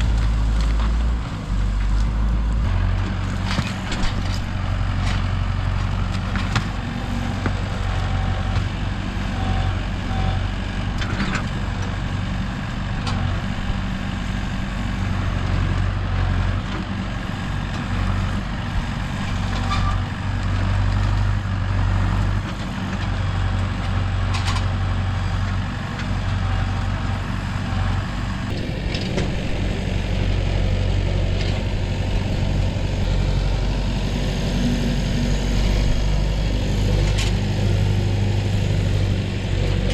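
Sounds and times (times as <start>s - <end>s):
large vehicle engine running: 0.0s - 39.9s.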